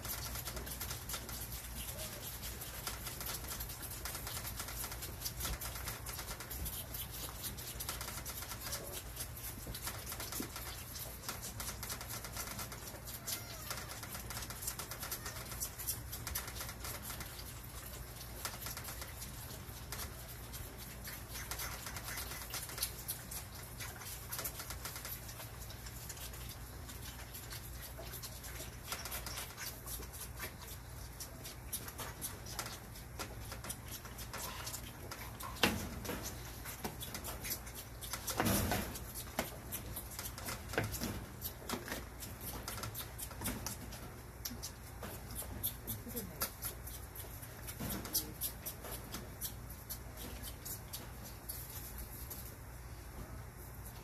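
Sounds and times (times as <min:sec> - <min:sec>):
fawns sucking bottle nipples: 0:00.0 - 0:54.0.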